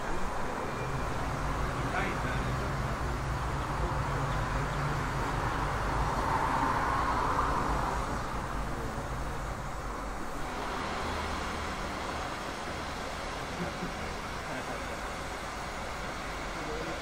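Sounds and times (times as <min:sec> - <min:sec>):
steam engine taking water rushing: 0:00.0 - 0:17.0.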